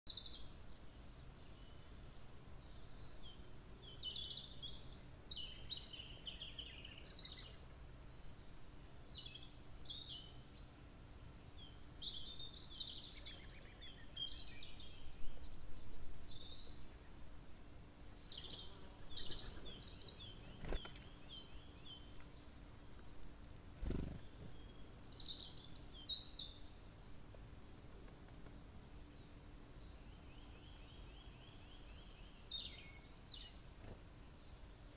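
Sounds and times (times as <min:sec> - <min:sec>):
songbirds twittering: 0:00.1 - 0:34.9.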